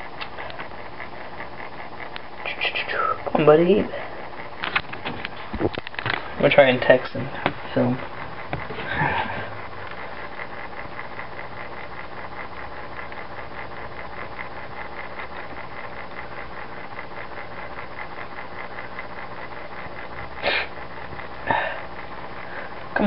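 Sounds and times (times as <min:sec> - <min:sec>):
pulsing mechanical hum: 0:00.0 - 0:23.0.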